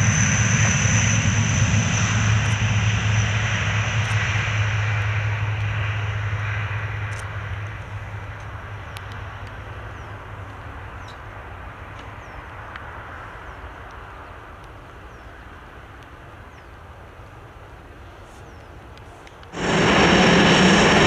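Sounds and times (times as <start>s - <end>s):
aircraft engine rumble: 0.0s - 21.0s.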